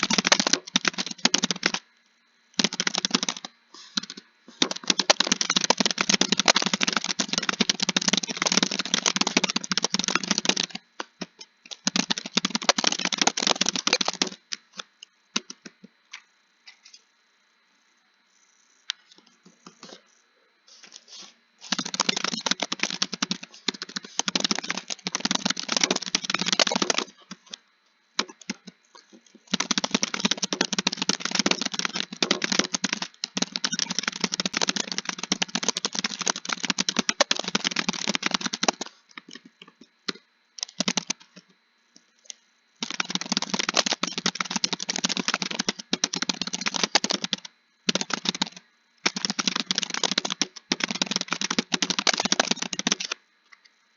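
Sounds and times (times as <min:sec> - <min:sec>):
rapid keyboard typing: 0:00.0 - 0:01.9, 0:02.5 - 0:15.8, 0:21.6 - 0:27.6, 0:28.2 - 0:41.4, 0:42.2 - 0:53.2.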